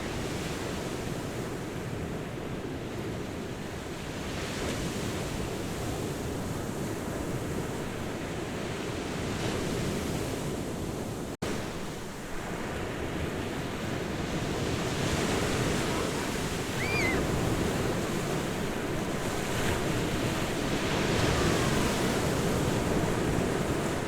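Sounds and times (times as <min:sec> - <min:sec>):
waves breaking on a beach: 0:00.0 - 0:24.0.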